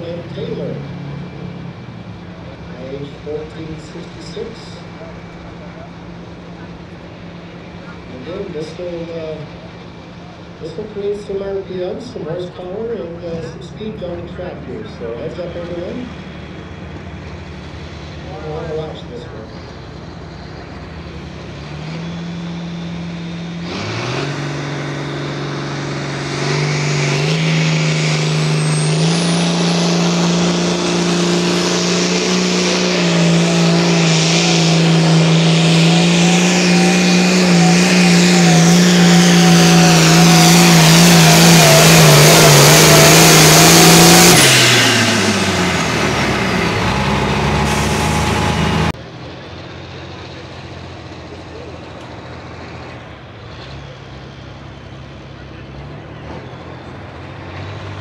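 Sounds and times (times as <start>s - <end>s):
tractor engine at full throttle: 0.0s - 58.0s.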